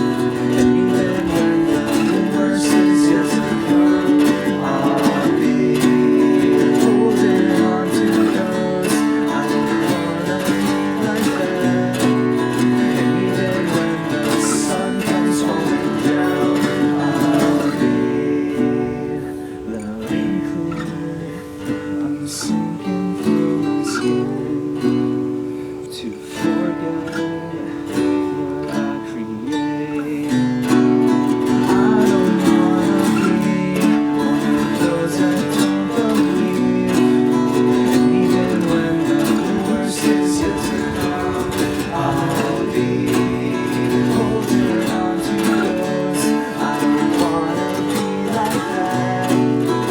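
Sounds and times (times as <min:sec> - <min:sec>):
strummed acoustic guitar: 0:00.0 - 0:49.9.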